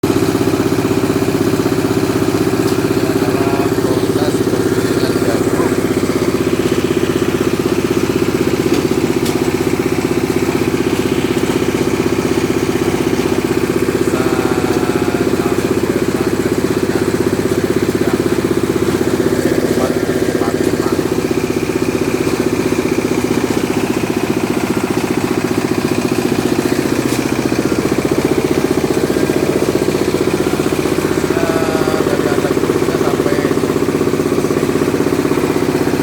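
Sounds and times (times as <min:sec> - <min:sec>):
grinding mill engine pulsing: 0:00.0 - 0:36.0.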